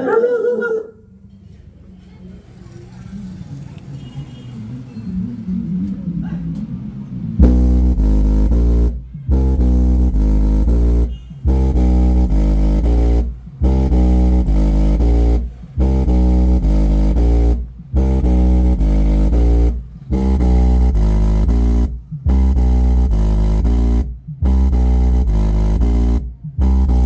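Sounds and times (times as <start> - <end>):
bass-heavy music through speaker: 4.6 - 27.0.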